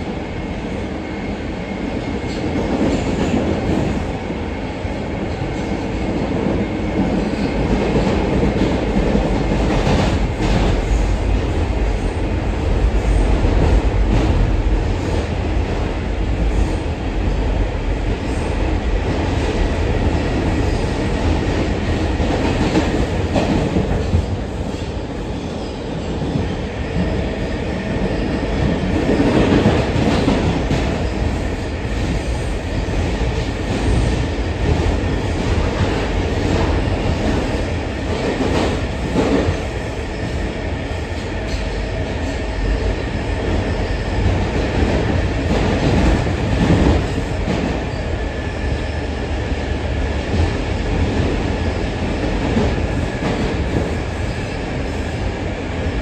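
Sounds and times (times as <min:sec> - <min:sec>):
subway car rumbling: 0:00.0 - 0:56.0.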